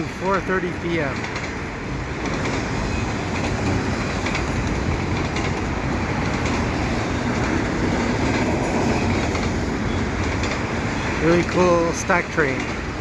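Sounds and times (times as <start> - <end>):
train wheels on rail: 0.0 - 13.0.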